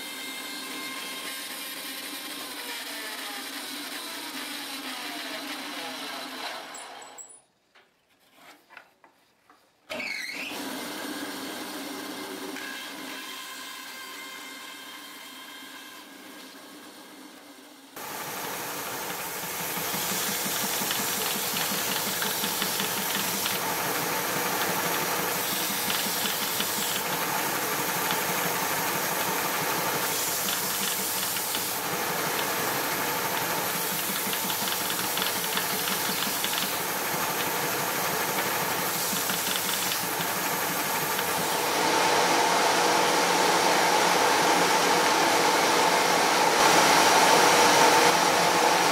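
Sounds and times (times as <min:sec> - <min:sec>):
electric woodworking machine: 0:00.0 - 0:06.8, 0:09.9 - 0:48.9.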